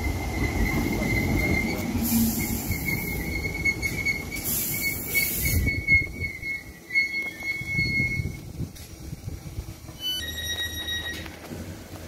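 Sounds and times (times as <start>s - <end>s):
high-pitched train whine: 0.0s - 11.8s
train wheels rumbling over rails: 0.0s - 12.0s
hiss: 0.6s - 11.9s.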